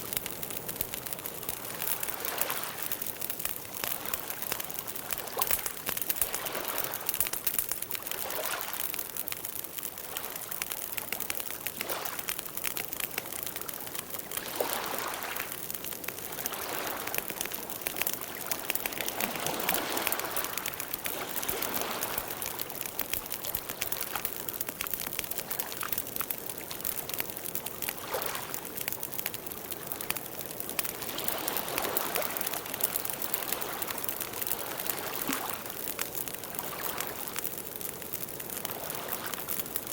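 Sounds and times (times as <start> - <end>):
soft rushing of fire: 0.0 - 39.9
wood crackling and popping: 0.0 - 39.9.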